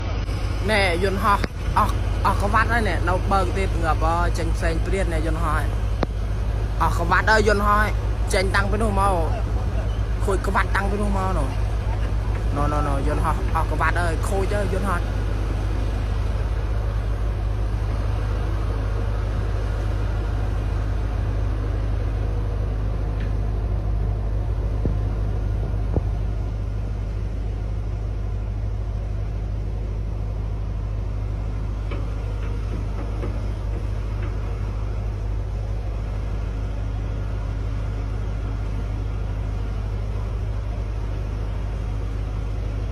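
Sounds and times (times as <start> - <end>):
excavator diesel engine rumbling: 0.0 - 42.9.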